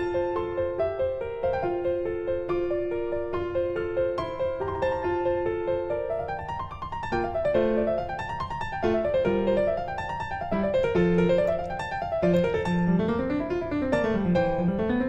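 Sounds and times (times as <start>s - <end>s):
piano arpeggios: 0.0s - 15.0s.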